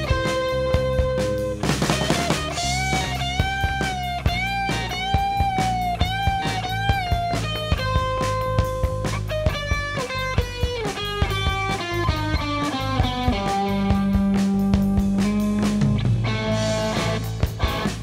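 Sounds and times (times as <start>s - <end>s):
electric guitar lead line: 0.0s - 18.0s
live rock band playing: 0.0s - 18.0s.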